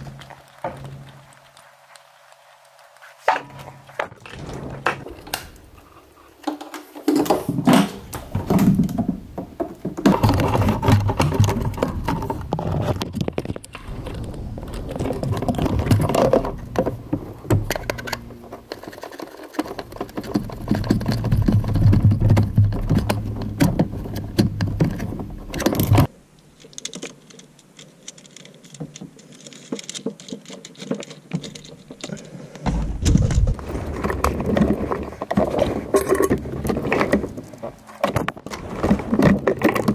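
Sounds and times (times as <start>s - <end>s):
hands rustling with wires: 0.0s - 39.9s.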